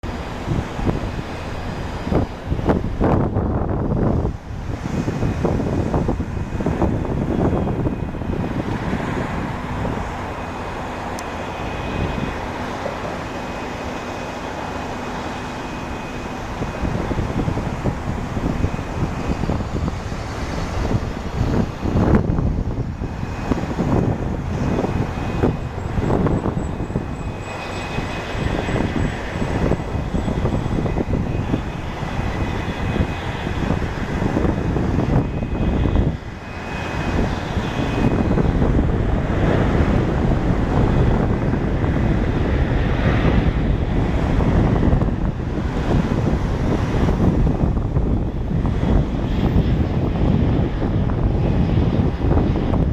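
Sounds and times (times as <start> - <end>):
jet engines rumbling and whining: 0.0 - 52.9.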